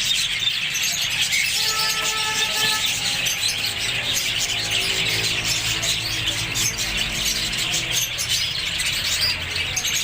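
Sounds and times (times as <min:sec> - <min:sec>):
parrots squawking and chattering: 0:00.0 - 0:10.0.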